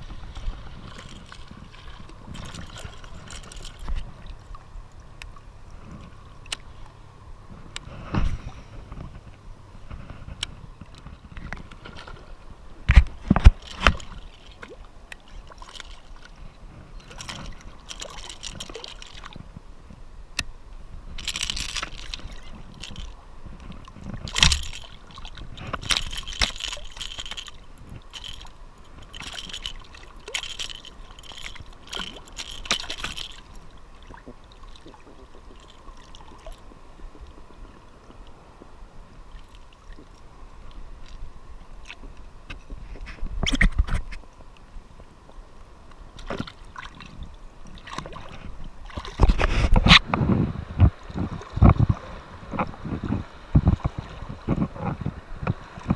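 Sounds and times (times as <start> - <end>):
water splashing and sloshing: 0.0 - 55.9.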